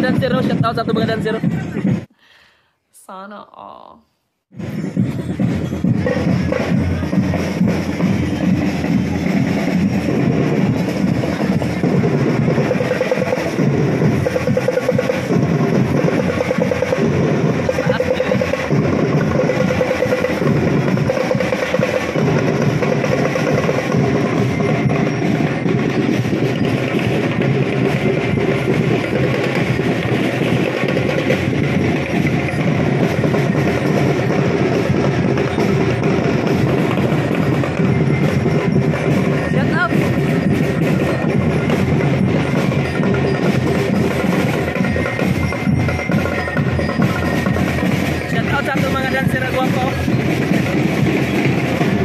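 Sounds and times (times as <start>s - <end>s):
parade drums marching rhythm: 0.0s - 2.2s, 4.5s - 52.0s.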